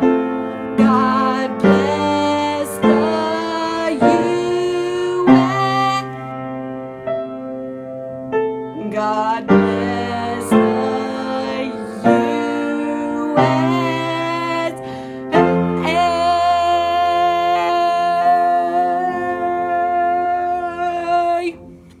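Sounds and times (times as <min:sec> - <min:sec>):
person singing: 0:00.0 - 0:06.4, 0:08.8 - 0:22.0
piano backing track: 0:00.0 - 0:22.0.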